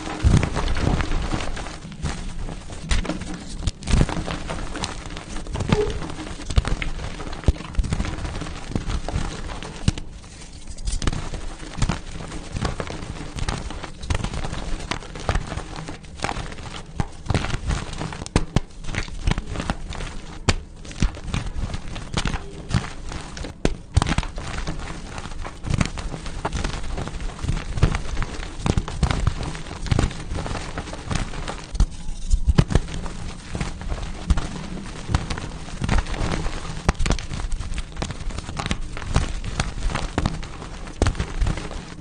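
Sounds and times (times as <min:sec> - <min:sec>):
chalk crushed crunching: 0:00.0 - 0:42.0.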